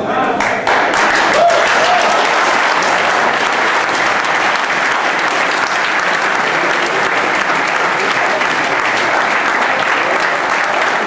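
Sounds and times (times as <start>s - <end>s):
crowd clapping: 0.4s - 11.0s.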